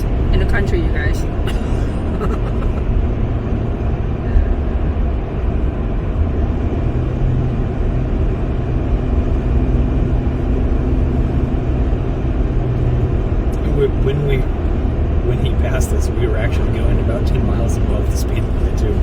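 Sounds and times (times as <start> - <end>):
road and engine rumble: 0.0 - 19.0
steady low hum: 0.0 - 19.0.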